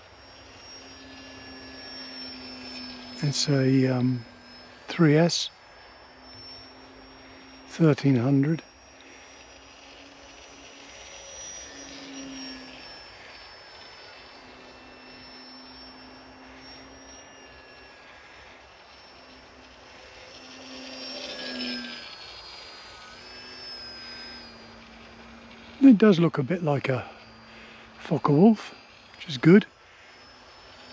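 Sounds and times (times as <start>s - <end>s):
model plane propeller whine: 0.0s - 30.9s.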